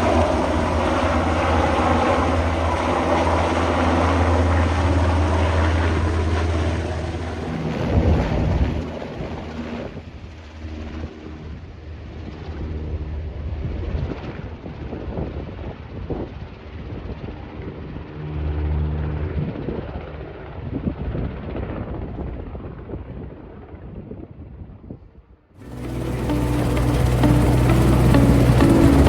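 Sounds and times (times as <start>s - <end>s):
helicopter rotor drone: 0.0s - 20.6s, 25.6s - 29.0s.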